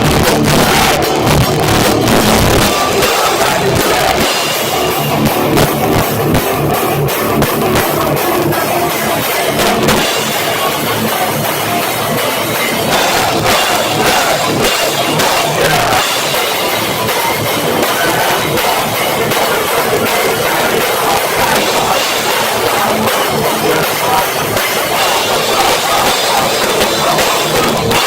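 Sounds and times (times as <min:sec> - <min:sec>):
electric guitar: 0:00.0 - 0:28.0
heavy rock band playing: 0:00.0 - 0:28.0
pounding drums: 0:00.0 - 0:28.0.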